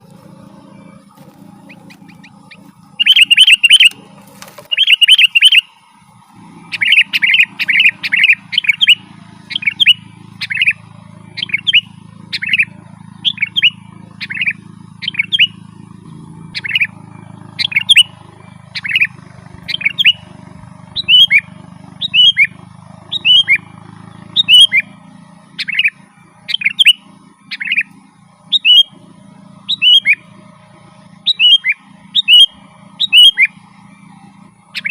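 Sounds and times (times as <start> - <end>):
bulbul singing: 0.0 - 34.9
steady low hum: 0.0 - 34.9.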